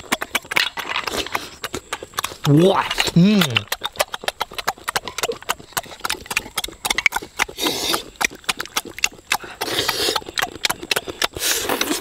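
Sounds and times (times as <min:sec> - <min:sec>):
person chewing wetly: 0:00.0 - 0:12.0.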